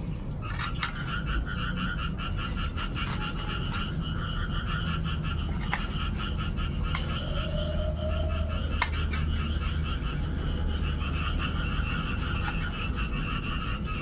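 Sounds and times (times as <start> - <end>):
frog trilling: 0.0 - 14.0.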